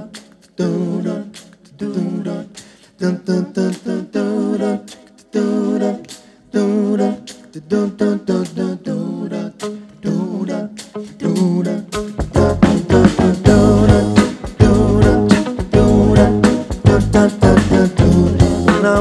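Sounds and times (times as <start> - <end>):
voices singing a cappella: 0.0 - 19.0.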